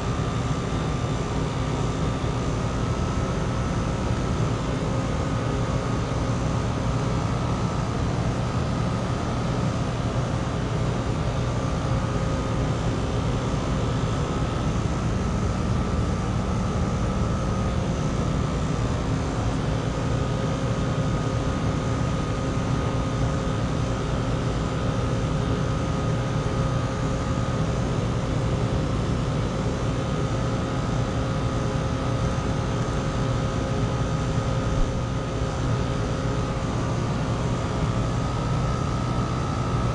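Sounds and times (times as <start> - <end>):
compressor hum: 0.0 - 39.9.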